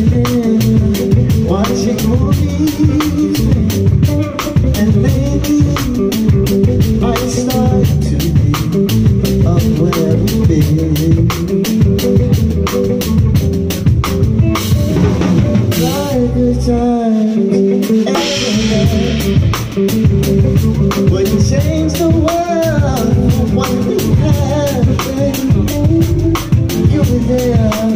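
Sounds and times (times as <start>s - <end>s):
drum kit: 0.0s - 27.9s
electric bass: 0.0s - 27.9s.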